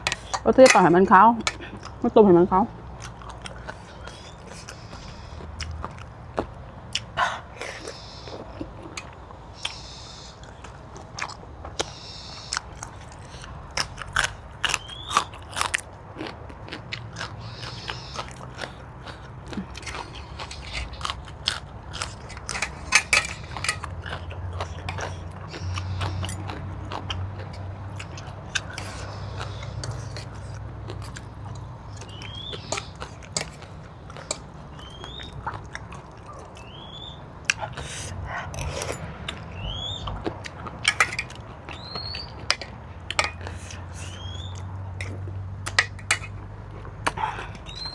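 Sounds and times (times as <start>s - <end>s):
close chewing and crunching: 0.0s - 47.9s.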